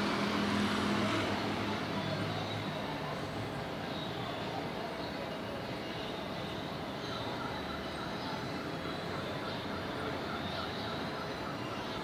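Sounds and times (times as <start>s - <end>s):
traffic rumble and hiss: 0.0s - 12.0s.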